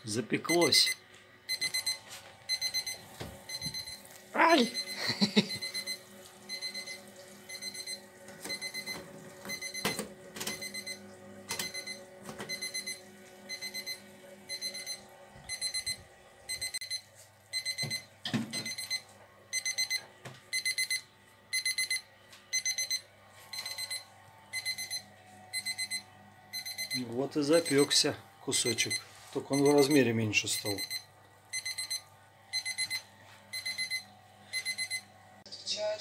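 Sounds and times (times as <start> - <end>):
thermometer alarm beeping: 0.5 - 35.2.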